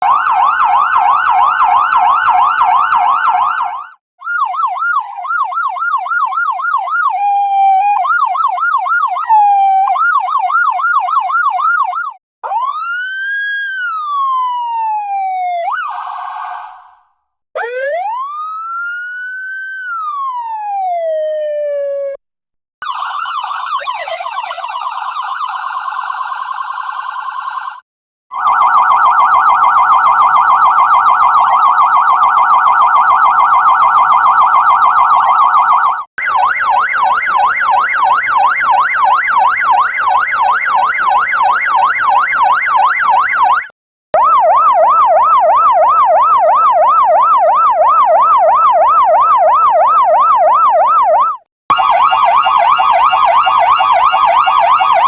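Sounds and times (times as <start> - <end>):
police siren wail: 0.0 - 17.0, 17.6 - 22.2, 22.8 - 55.0
electronic siren yelp: 0.0 - 22.2, 22.8 - 55.0.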